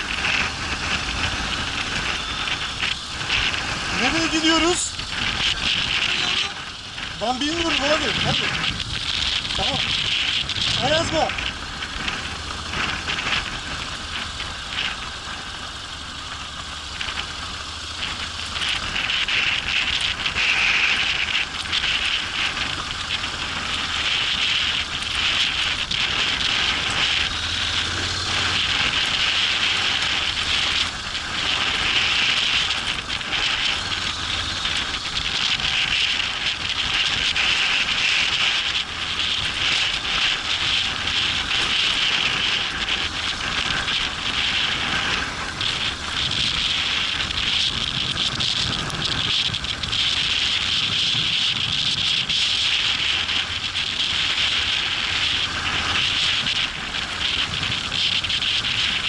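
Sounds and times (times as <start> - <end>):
wind on microphone: 0.0 - 16.1, 16.9 - 59.0
motorcycle engine at low revs: 0.0 - 59.0
tyres hissing on dirt track: 0.0 - 59.0.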